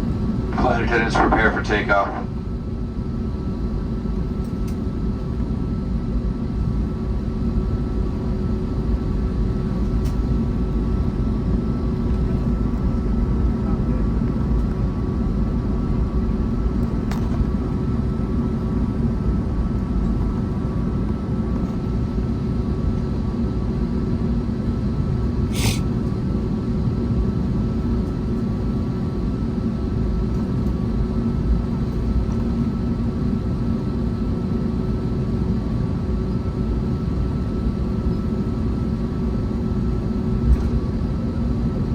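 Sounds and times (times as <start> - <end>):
jet engine cabin rumble: 0.0 - 41.9.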